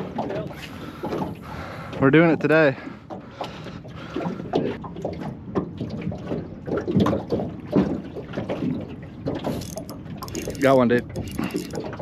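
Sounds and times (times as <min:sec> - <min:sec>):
small waves lapping against boat: 0:00.0 - 0:12.0.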